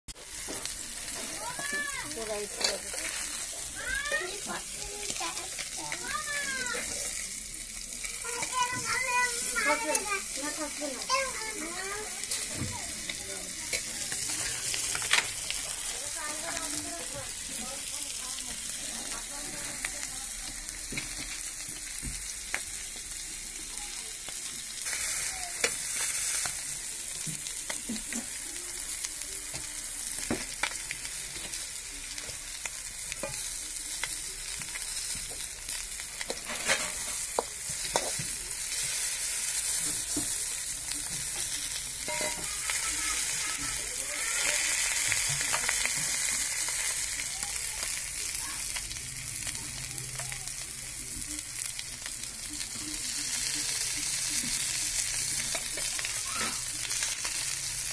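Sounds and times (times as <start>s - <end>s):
fish frying in hot oil: 0.1s - 57.9s.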